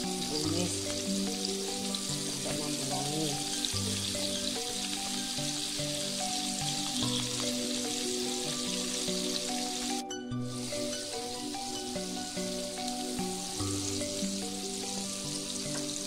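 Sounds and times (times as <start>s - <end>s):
background music melody: 0.0s - 16.0s
food sizzling in hot oil: 0.0s - 16.0s.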